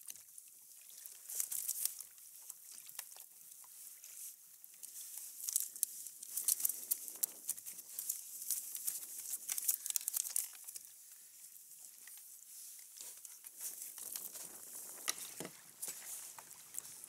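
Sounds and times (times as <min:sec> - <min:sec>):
crinkly rustling: 0:00.0 - 0:17.0.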